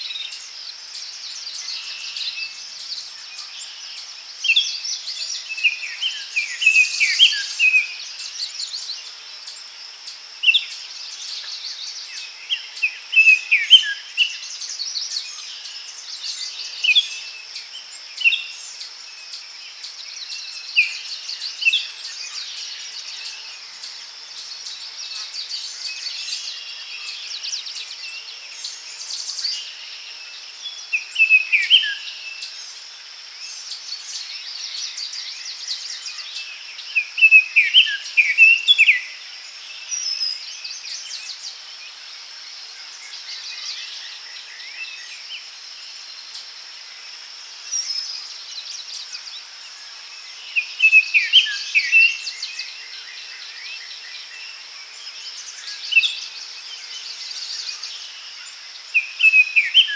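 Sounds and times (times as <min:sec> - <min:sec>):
high insect drone: 0:00.0 - 0:59.9
songbirds chirping: 0:00.0 - 0:59.9.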